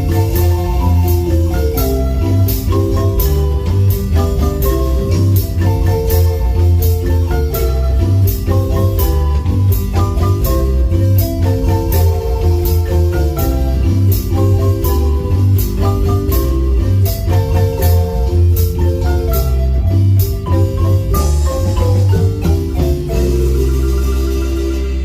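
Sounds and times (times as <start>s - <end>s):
marimba ensemble playing: 0.0s - 25.0s
steady bass line: 0.0s - 25.0s.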